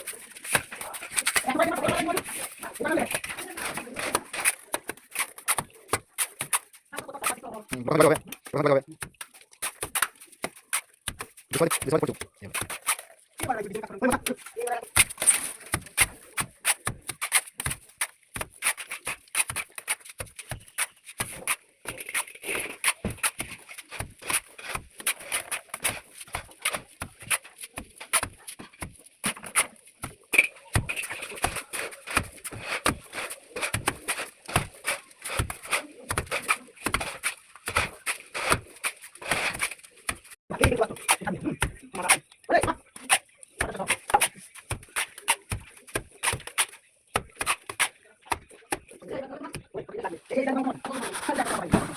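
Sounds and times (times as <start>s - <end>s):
trowel scraping mortar: 0.0s - 8.5s, 9.2s - 48.4s, 50.6s - 51.9s.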